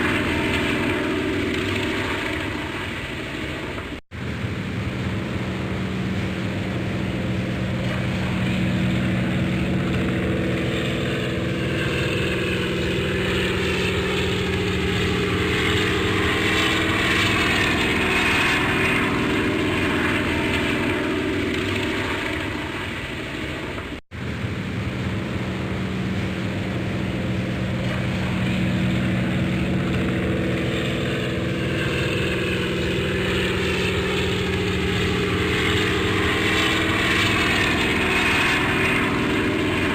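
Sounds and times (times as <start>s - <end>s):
airplane engine passing by: 0.0s - 39.9s.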